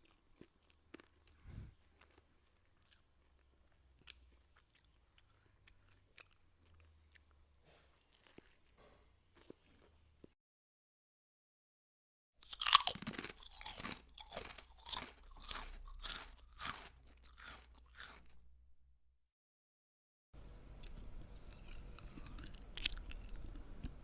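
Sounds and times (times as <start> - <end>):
person chewing crunchy food: 0.0 - 10.4, 12.4 - 18.4, 20.7 - 24.0.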